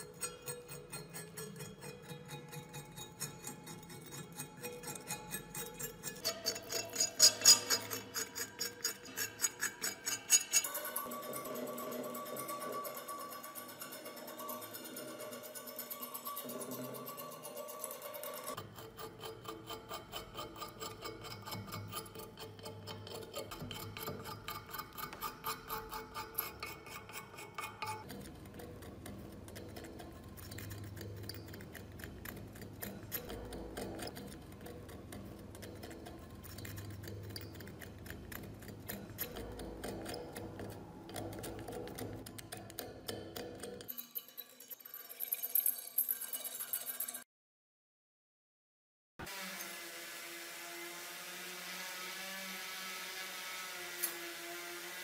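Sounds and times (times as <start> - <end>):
metal scraper rasping on steel: 0.0 - 47.2, 52.0 - 55.0.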